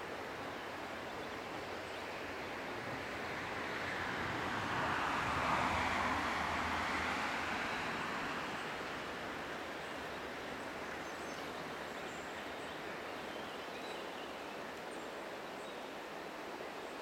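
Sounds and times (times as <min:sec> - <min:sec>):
river water flowing over stones: 0:00.0 - 0:17.0.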